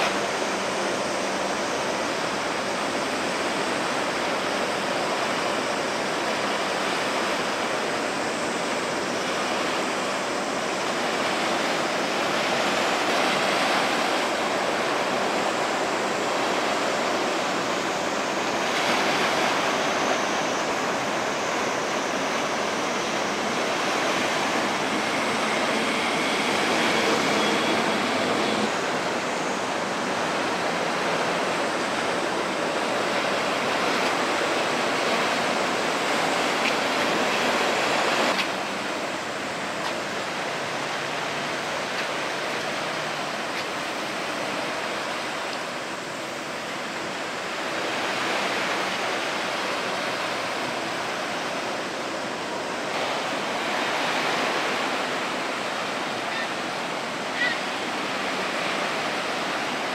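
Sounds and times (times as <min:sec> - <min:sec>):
water rushing and splashing: 0:00.0 - 0:59.9.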